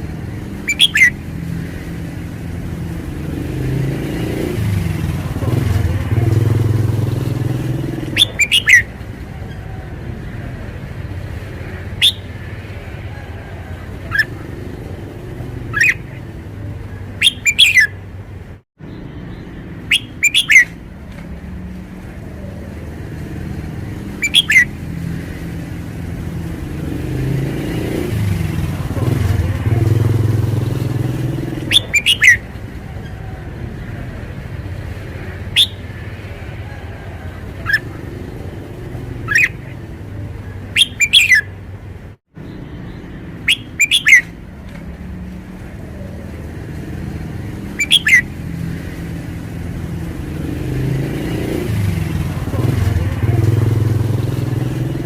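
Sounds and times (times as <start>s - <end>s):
bulbul singing sharp phrases: 0.0s - 55.0s.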